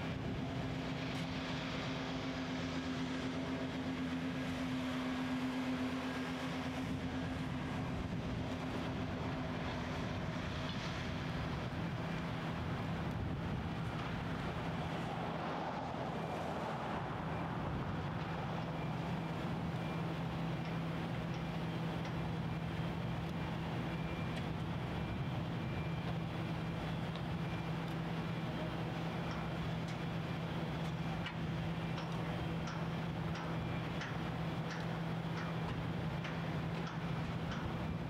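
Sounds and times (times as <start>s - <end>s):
heavy machinery engines running: 0.0s - 38.0s.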